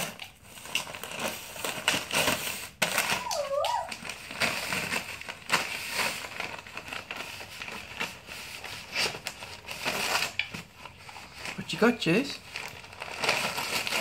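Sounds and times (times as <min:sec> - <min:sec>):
wrapping paper crinkling and ripping: 0:00.0 - 0:14.0.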